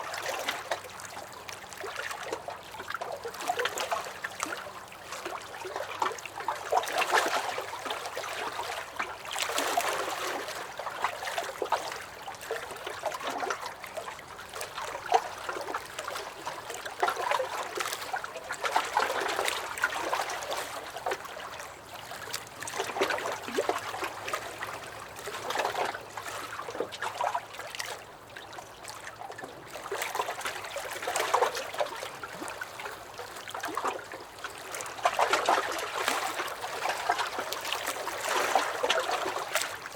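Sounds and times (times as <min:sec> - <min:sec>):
waves lapping against a dock: 0:00.0 - 0:39.9.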